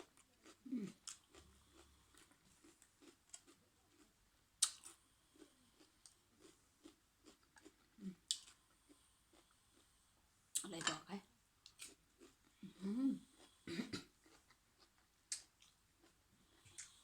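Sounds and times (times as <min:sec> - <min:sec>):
person chewing food: 0:00.0 - 0:09.9, 0:11.6 - 0:17.0.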